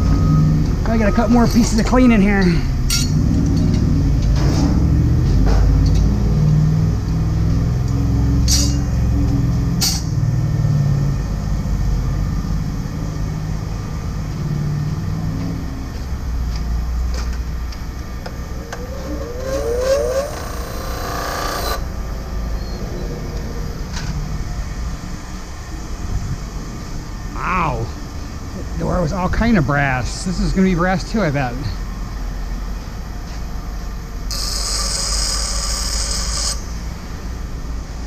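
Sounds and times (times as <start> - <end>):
heavy vehicle engine running: 0.0 - 34.3.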